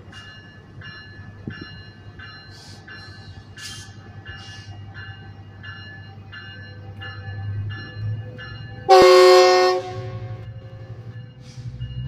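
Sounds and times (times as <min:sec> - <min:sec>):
train bell ringing: 0:00.0 - 0:12.0
train low drone: 0:00.0 - 0:12.0.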